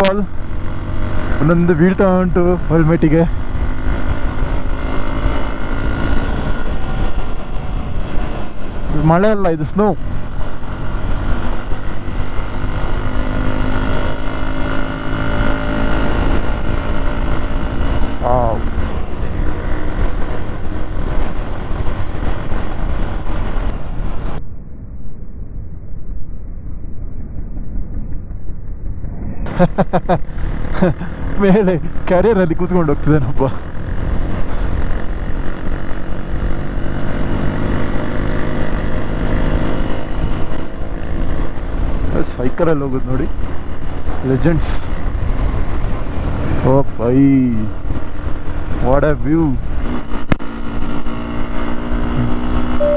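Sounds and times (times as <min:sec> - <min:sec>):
motorcycle engine droning: 0:00.0 - 0:24.9, 0:26.6 - 0:52.9
wind rumble on microphone: 0:00.0 - 0:52.9.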